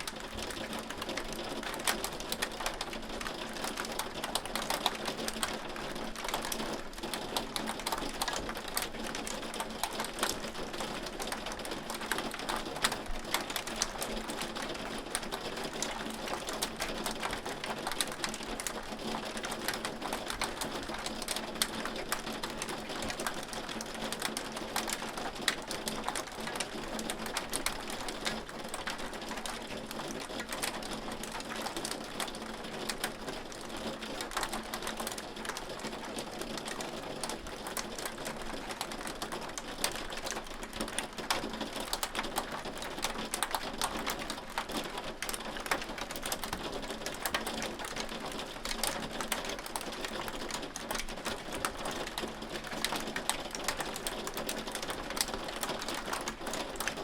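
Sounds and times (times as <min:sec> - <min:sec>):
hailstones clicking and ticking: 0:00.0 - 0:57.0.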